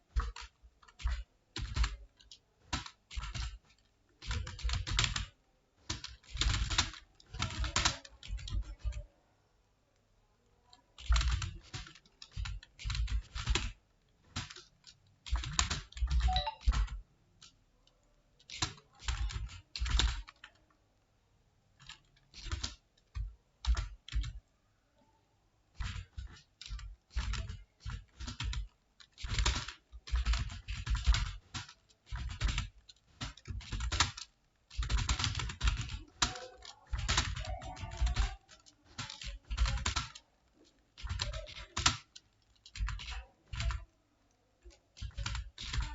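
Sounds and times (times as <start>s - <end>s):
typing on computer keyboard: 0.0s - 9.2s, 10.6s - 20.8s, 21.8s - 24.5s, 25.7s - 45.9s.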